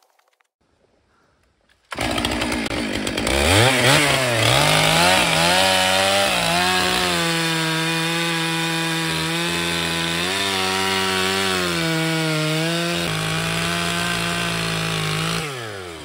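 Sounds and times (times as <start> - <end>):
chainsaw cutting log: 1.9 - 16.0.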